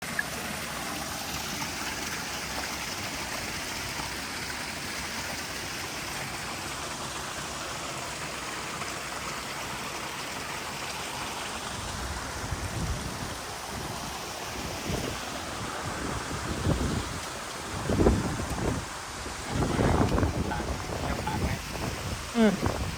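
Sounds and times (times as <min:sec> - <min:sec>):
river water rushing: 0:00.0 - 0:22.9.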